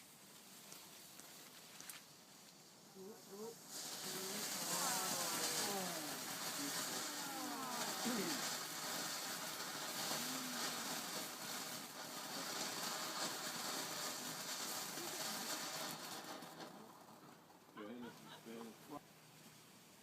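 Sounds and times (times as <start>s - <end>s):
firework hissing: 0.0s - 20.0s.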